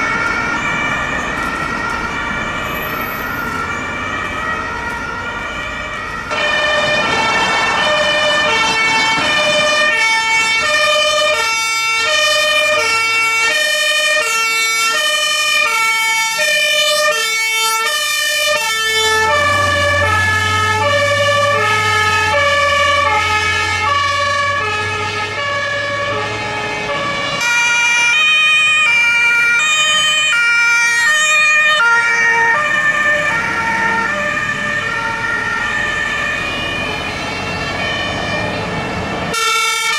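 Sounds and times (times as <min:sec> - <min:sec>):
two-tone fire engine sirens: 0:00.0 - 0:39.9.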